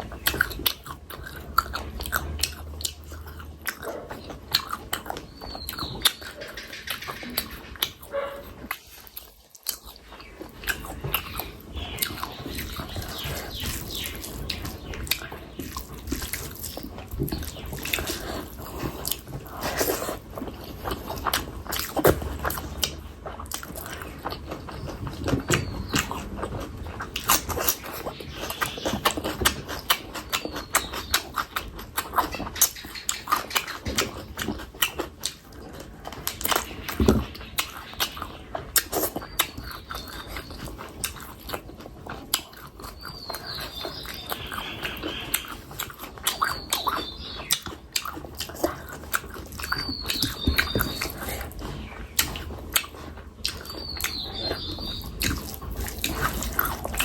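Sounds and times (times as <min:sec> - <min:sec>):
wet chewing and lip-smacking: 0:00.0 - 0:57.0.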